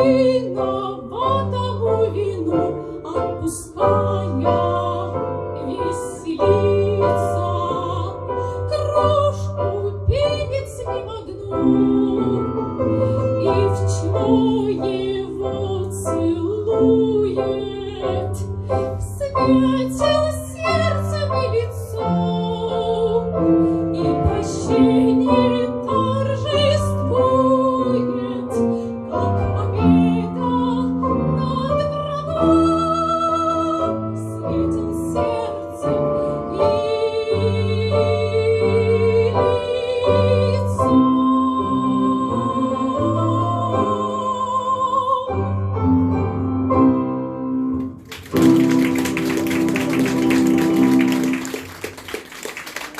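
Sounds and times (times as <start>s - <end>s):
piano accompaniment: 0.0s - 52.9s.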